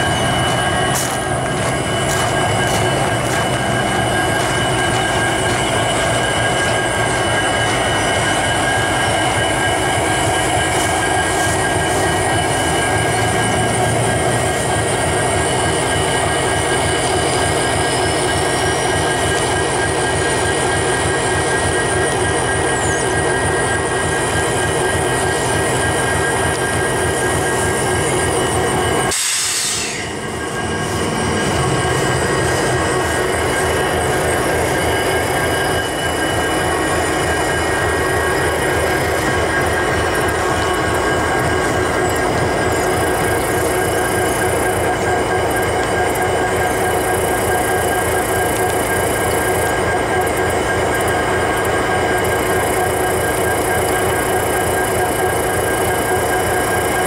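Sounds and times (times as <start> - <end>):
diesel locomotive engines rumbling: 0.0 - 57.0.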